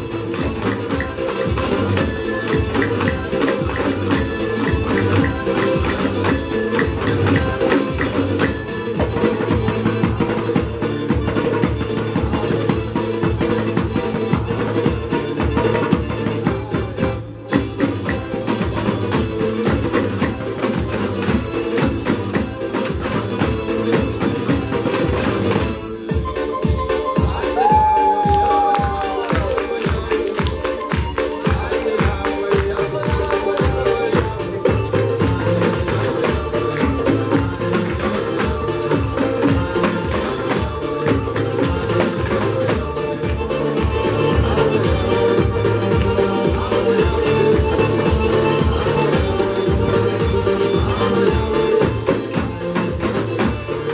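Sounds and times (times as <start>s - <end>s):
tambourines jingling: 0.0s - 9.5s, 17.4s - 53.9s
fast dance melody: 0.0s - 53.9s
hand percussion shaking and striking: 0.0s - 53.9s
repeating bass beat: 0.0s - 53.9s.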